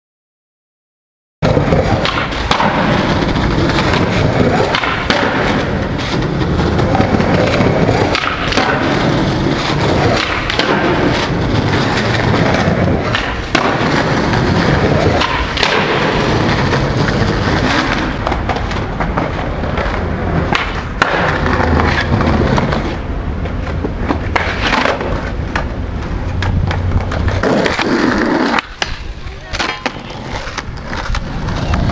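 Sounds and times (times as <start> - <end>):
skateboard tail clacks: 1.4 - 31.9
skateboard wheels on rough concrete: 1.4 - 31.9.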